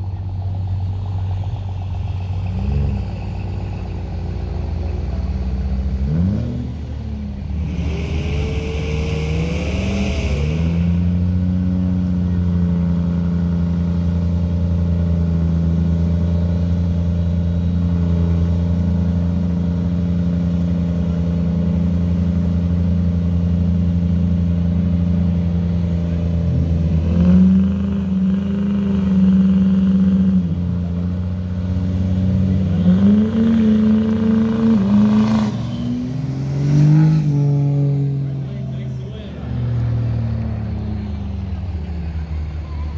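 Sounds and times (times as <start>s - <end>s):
diesel truck engines revving: 0.0s - 42.9s.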